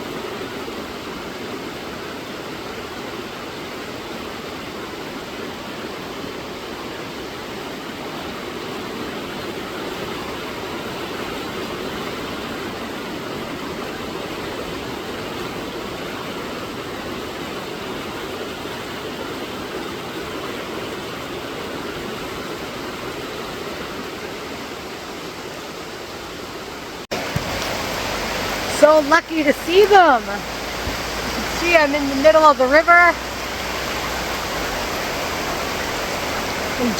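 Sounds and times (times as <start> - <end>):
river water flowing: 0.0 - 36.9.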